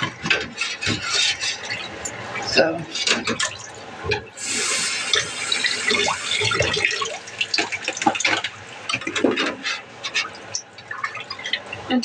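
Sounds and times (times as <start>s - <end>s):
kitchen tap running: 0.0s - 12.0s.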